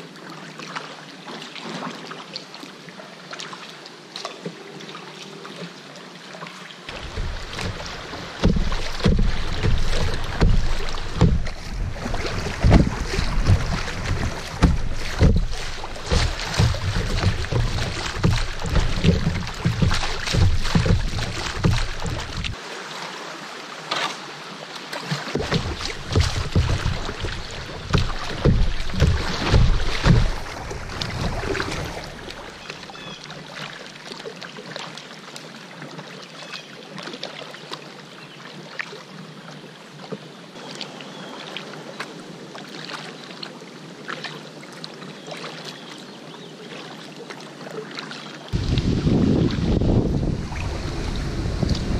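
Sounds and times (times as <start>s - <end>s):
river water rushing and splashing: 0.0s - 51.9s
soft water wash: 0.0s - 51.9s.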